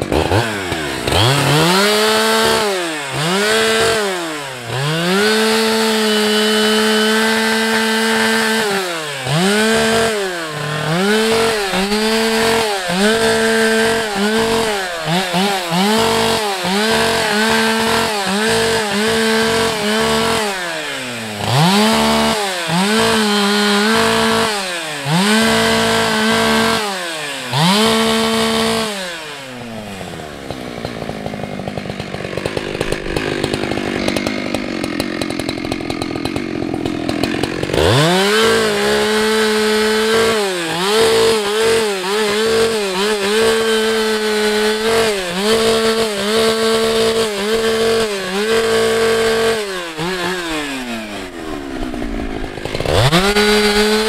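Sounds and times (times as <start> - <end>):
chainsaw idling: 0.0 - 54.0
chainsaw revving and cutting: 0.0 - 54.0.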